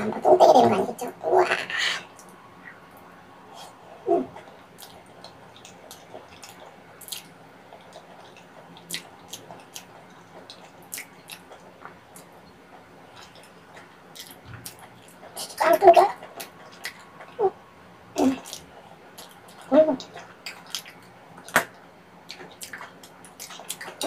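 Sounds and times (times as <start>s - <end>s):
wet chewing and mouth clicks: 3.5s - 17.4s, 18.3s - 24.0s.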